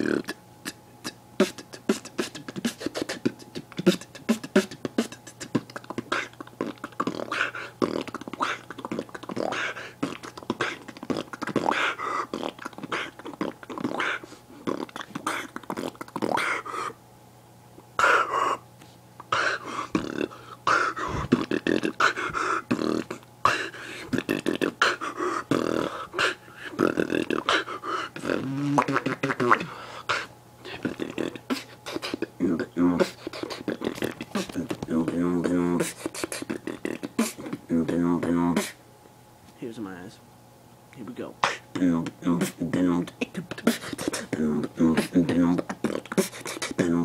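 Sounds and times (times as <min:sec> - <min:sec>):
human beatboxing: 0:00.0 - 0:17.0, 0:18.0 - 0:18.6, 0:19.3 - 0:38.8, 0:41.4 - 0:47.0.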